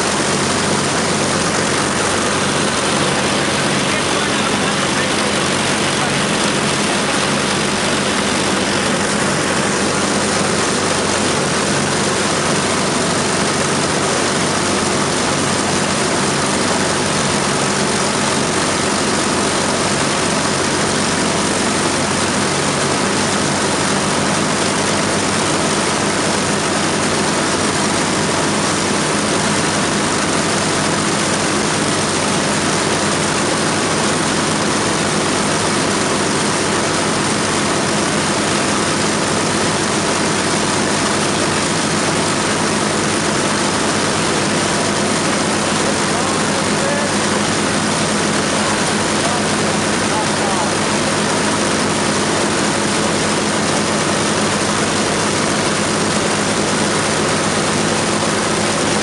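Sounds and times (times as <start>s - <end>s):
piston aircraft engines running: 0.0s - 59.0s.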